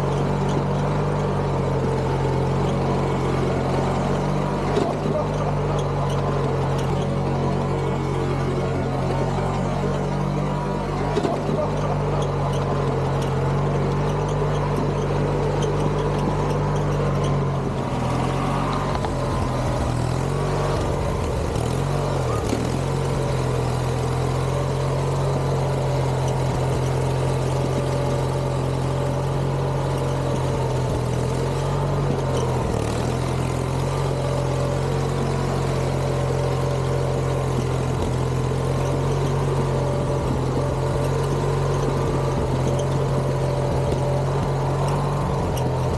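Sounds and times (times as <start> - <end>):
garden tractor engine running: 0.0 - 45.9.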